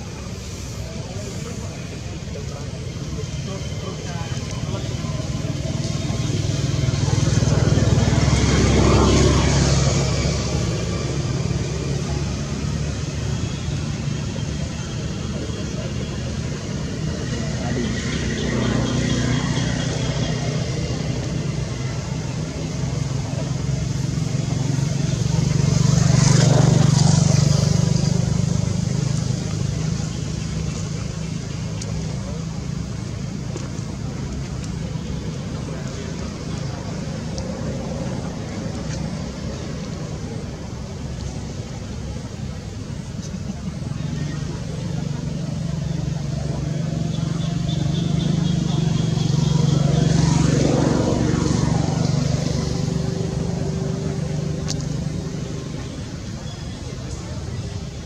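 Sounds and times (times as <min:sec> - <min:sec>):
motor engine humming: 0:00.0 - 0:58.0.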